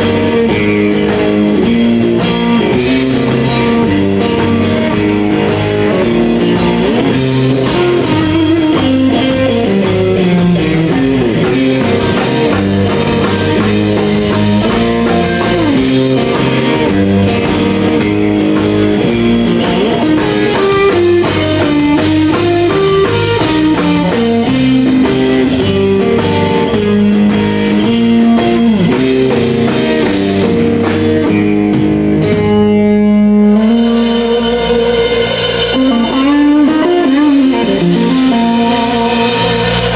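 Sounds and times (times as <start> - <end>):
drum kit: 0.0 - 39.9
electric guitar lead line: 0.0 - 39.9.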